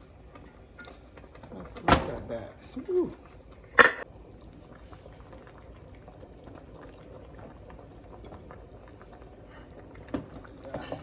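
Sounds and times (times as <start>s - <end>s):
soup boiling and bubbling: 0.0s - 11.0s.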